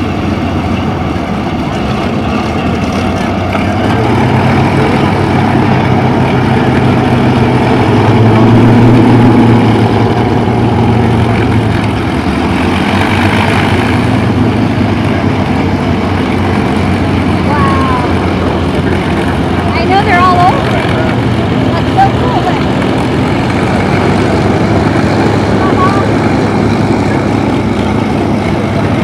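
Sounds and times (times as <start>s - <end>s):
aircraft piston engines droning: 0.0s - 29.0s.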